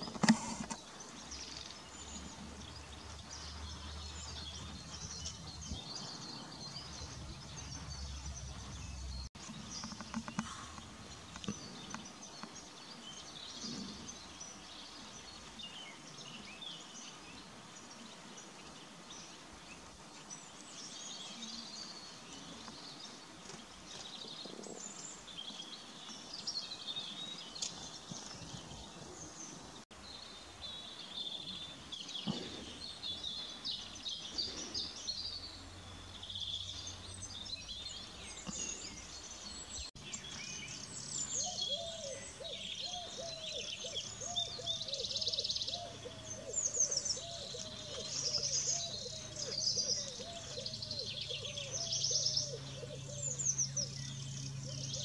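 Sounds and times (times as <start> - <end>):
outdoor background noise: 0.0 - 55.0
songbirds chirping: 0.0 - 55.0.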